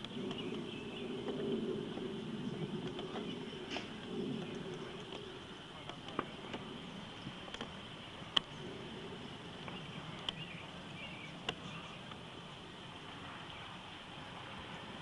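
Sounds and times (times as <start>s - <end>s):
faint hiss and hum: 0.0s - 15.0s.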